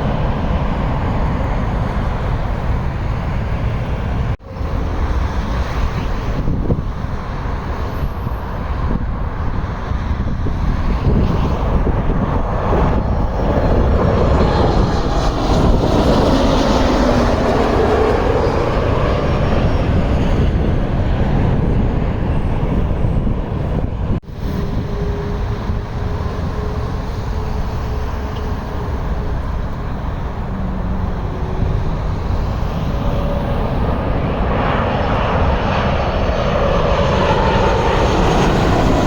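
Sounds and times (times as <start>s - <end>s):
jet airliner passing overhead: 0.0s - 39.0s.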